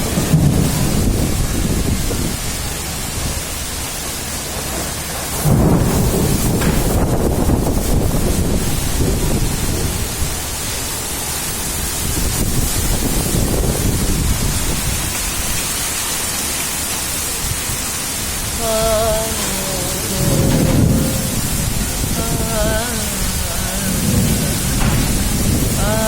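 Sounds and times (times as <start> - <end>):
thunder rumbling: 0.0 - 15.8, 17.5 - 26.0
heavy rain falling: 0.0 - 26.0.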